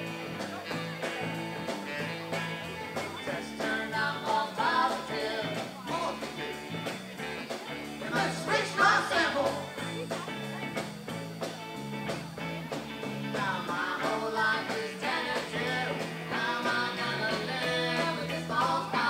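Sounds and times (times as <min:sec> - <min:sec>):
bass line: 0:00.0 - 0:19.0
drums: 0:00.0 - 0:19.0
electric guitar: 0:00.0 - 0:19.0.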